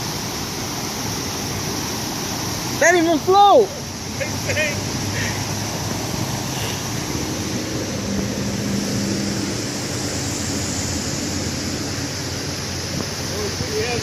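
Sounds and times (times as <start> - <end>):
fast-flowing floodwater rushing: 0.0 - 14.0.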